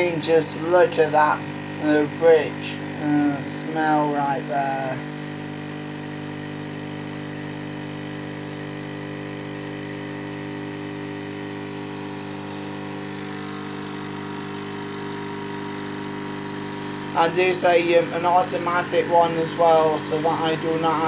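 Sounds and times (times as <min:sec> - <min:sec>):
coffee machine pump humming: 0:00.0 - 0:21.0.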